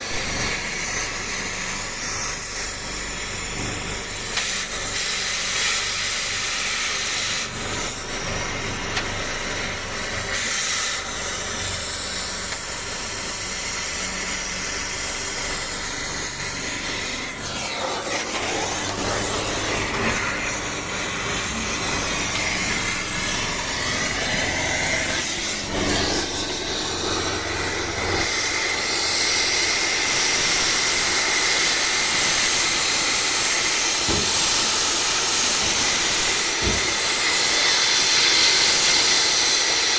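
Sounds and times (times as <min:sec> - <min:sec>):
backhoe diesel engine running: 0:00.0 - 0:39.8
broad hiss: 0:00.0 - 0:39.9.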